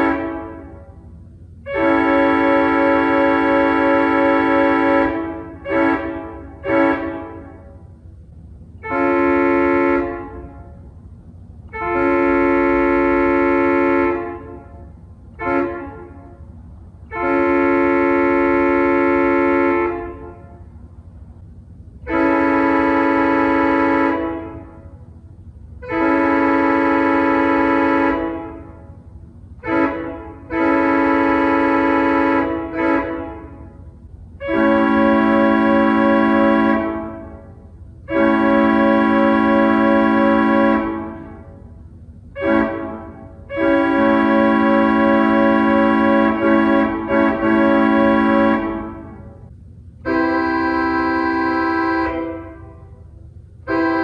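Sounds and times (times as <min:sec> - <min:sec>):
pipe organ chords like train horns: 0:00.0 - 0:54.0.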